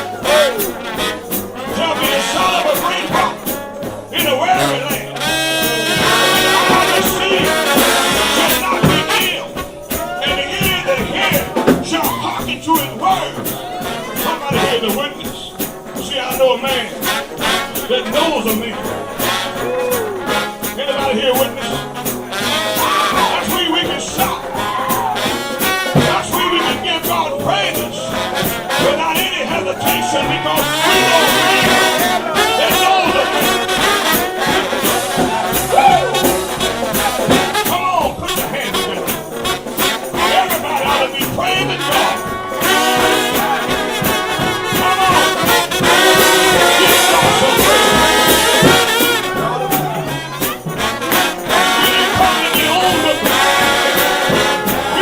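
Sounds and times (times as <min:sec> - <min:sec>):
brass band with trombones: 0:00.0 - 0:55.0.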